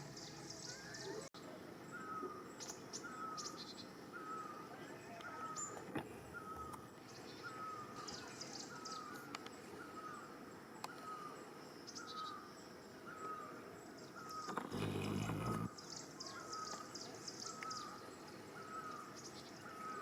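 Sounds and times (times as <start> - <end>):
bird chirping: 0.0 - 20.0
low background hiss: 0.0 - 20.0.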